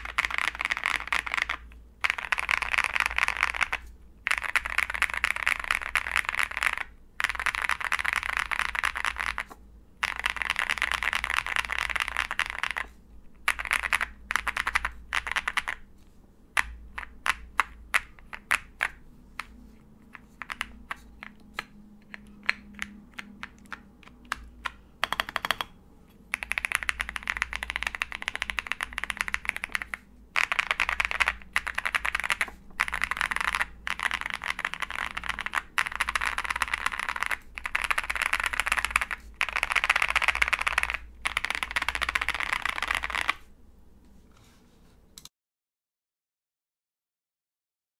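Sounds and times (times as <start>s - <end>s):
mechanical keyboard typing: 0.0s - 15.8s, 16.6s - 43.4s.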